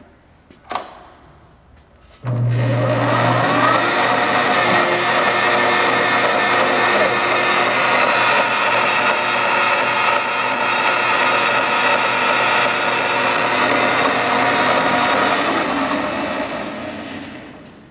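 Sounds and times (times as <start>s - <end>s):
lathe spindle whine and hum: 2.2s - 17.9s.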